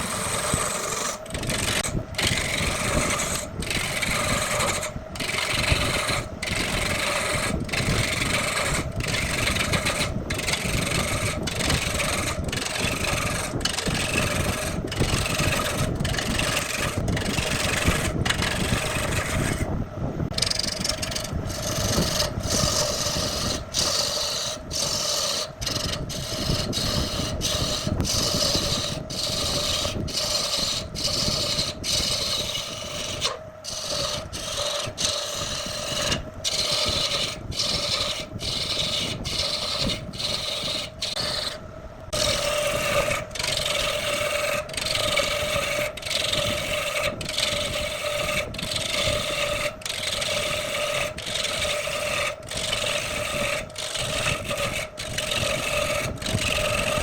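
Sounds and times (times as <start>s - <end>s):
lathe humming: 0.0s - 19.7s, 20.3s - 57.0s
tool scraping wood on lathe: 0.0s - 19.7s, 20.3s - 57.0s.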